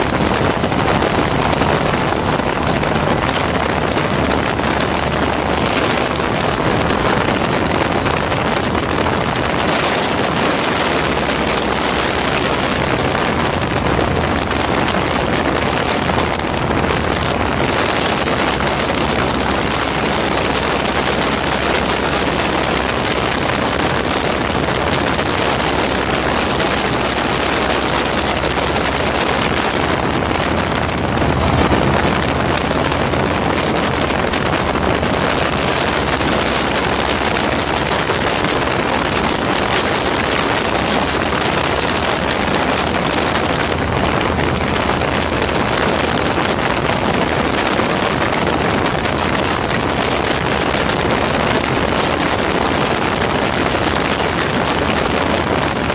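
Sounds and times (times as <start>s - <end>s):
rushing wind: 0.0s - 55.9s
two-stroke engine and propeller: 0.0s - 55.9s.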